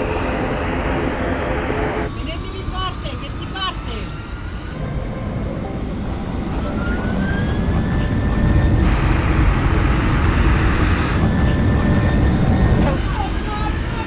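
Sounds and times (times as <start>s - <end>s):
loud rushing roar: 0.0s - 14.0s
rising engine whine: 0.0s - 14.0s
turboprop engines rumbling: 0.0s - 14.0s.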